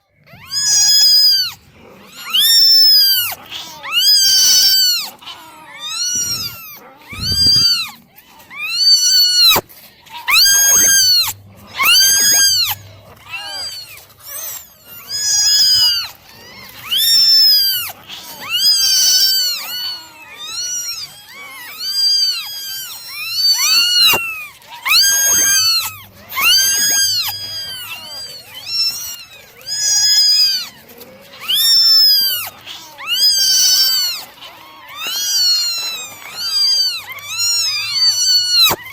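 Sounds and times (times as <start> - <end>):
kittens meowing: 0.0 - 38.9.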